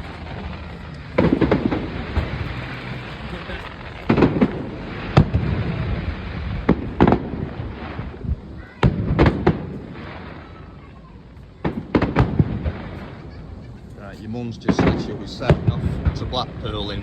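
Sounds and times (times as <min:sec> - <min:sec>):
fireworks bangs: 0:00.0 - 0:17.0
fireworks rumble and crackle: 0:00.0 - 0:17.0.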